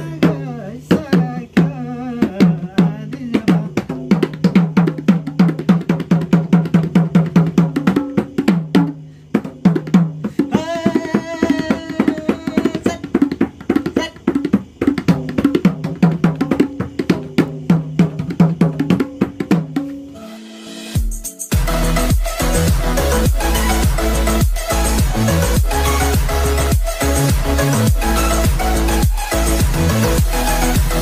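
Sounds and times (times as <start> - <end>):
hand drum playing fast rhythm: 0.0 - 20.2, 21.0 - 31.0.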